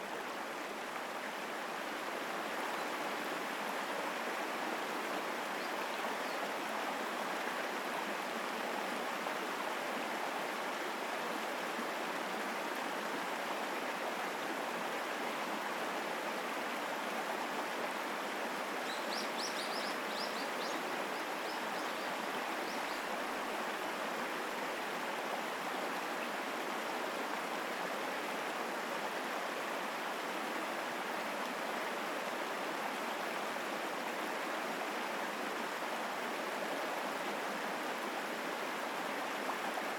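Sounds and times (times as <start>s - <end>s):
mountain stream rushing over rocks: 0.0s - 39.9s.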